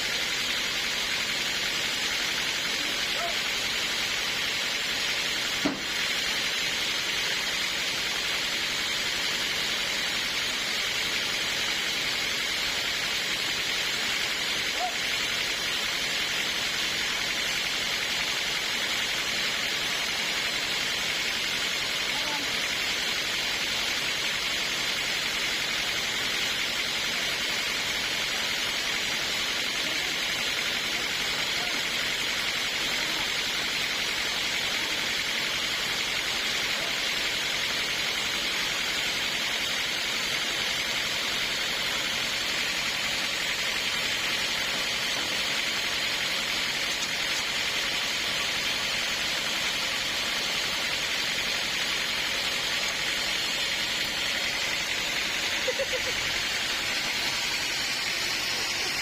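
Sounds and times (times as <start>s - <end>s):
sawmill running: 0.0s - 59.0s.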